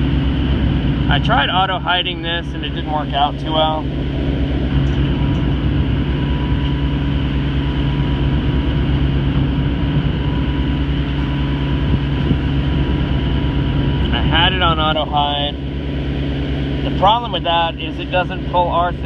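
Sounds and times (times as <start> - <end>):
boat engine droning: 0.0 - 19.0
faint steady whine: 0.0 - 19.0.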